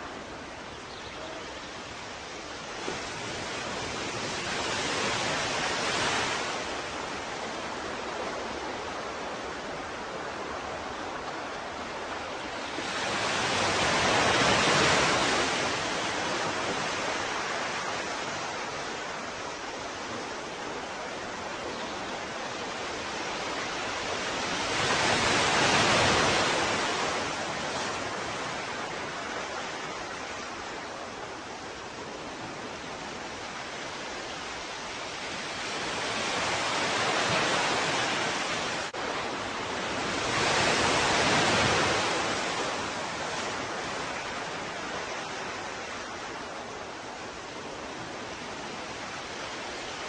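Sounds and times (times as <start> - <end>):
ocean waves washing on shore: 0.0 - 50.0
surf hiss: 0.0 - 50.0.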